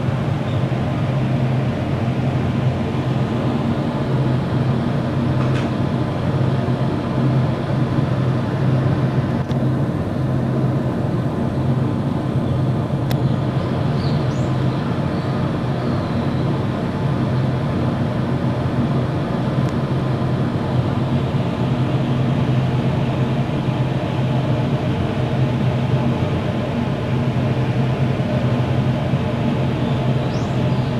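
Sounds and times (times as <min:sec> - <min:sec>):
low droning hum: 0:00.0 - 0:30.9.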